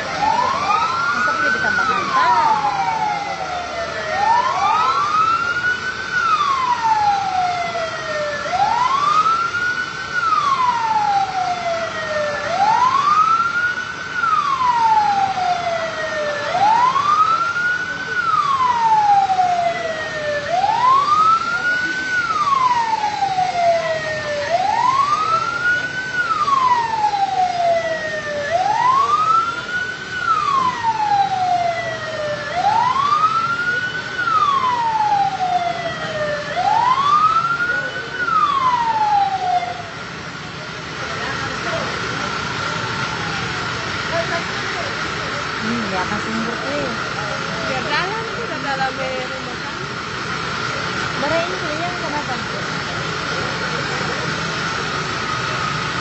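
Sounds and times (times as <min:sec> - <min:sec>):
emergency vehicle siren wailing: 0:00.0 - 0:56.0.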